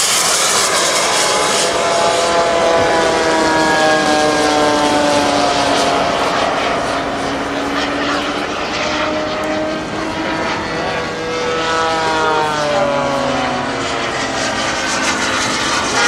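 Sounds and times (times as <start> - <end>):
model jet engine whine: 0.0 - 16.0.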